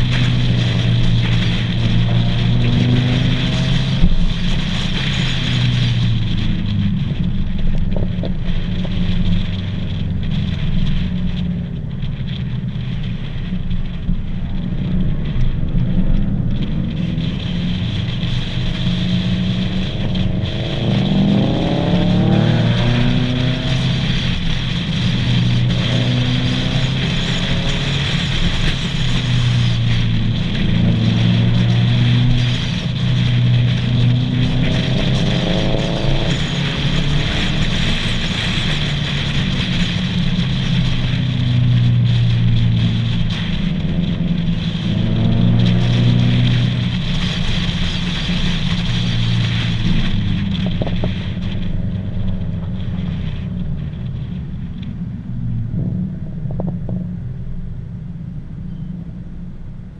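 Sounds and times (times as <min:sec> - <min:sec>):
car engines accelerating: 0:00.0 - 0:59.9.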